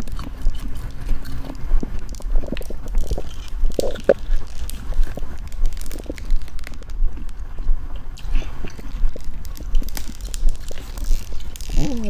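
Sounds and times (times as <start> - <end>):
low rumble: 0.0 - 12.0
wet chewing and lip-smacking: 0.0 - 12.0.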